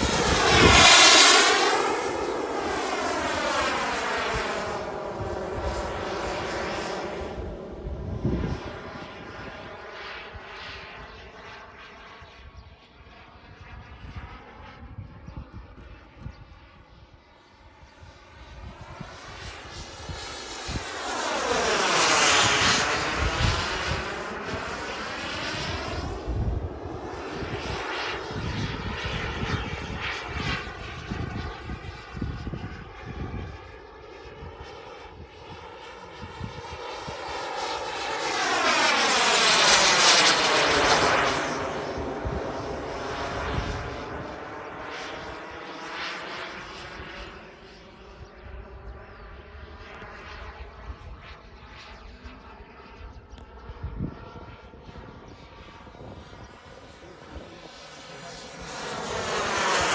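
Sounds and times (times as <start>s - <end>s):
model jet turbine whooshing: 0.0s - 11.4s, 17.9s - 33.7s, 35.0s - 59.9s.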